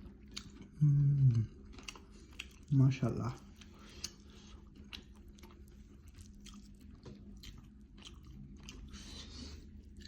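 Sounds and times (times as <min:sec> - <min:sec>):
low steady hum: 0:00.0 - 0:10.0
person chewing food: 0:00.0 - 0:10.0.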